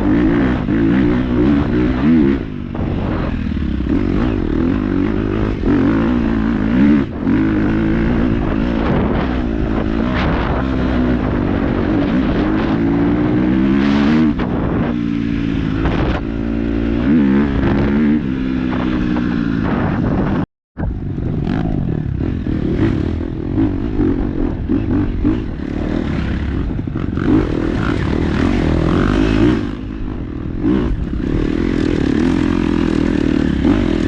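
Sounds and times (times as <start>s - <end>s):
dirt bike engine revving: 0.0s - 20.4s, 21.1s - 34.0s.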